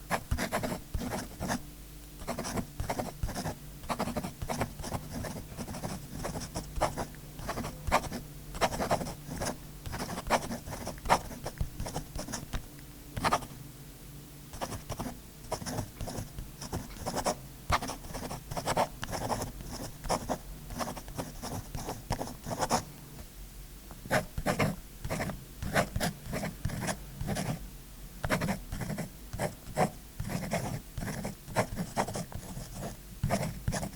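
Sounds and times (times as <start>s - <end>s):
scribbling on paper: 0.1s - 1.6s, 2.2s - 12.6s, 14.6s - 22.8s, 24.1s - 27.6s, 28.3s - 33.9s.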